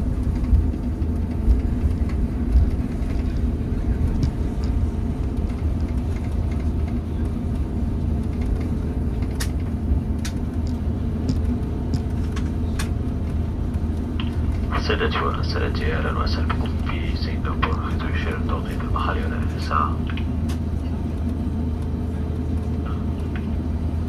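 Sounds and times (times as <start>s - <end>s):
jet engines: 0.0s - 24.0s
wheels rumbling on runway: 0.0s - 24.0s.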